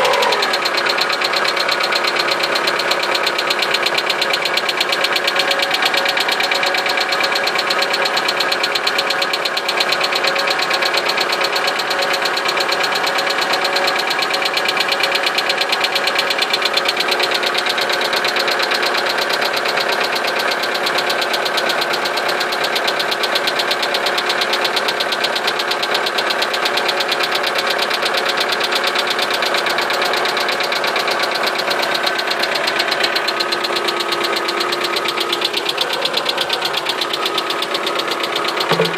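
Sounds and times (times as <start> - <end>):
engine idling with knock: 0.0 - 38.9.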